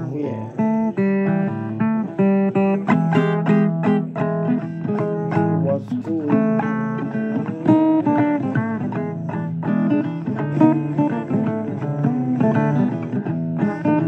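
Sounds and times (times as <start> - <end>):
blues guitar playing: 0.0 - 14.0.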